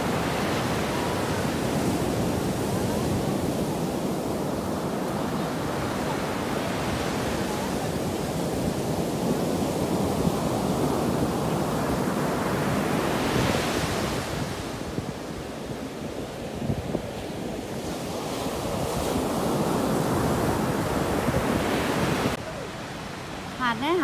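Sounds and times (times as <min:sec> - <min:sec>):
ocean surf on beach: 0:00.0 - 0:24.0.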